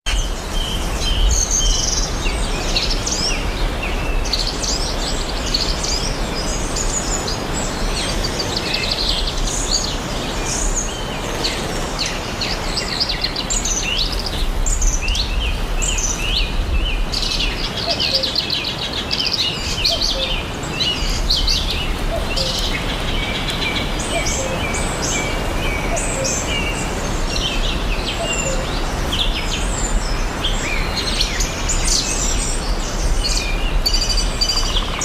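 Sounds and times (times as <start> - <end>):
birds chirping and singing: 0.1 - 35.0.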